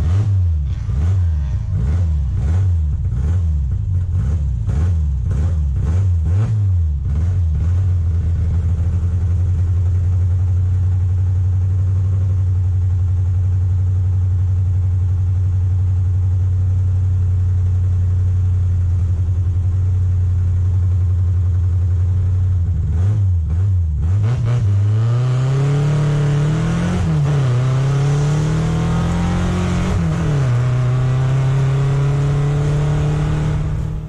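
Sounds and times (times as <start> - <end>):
car engine running hard: 0.0 - 34.0.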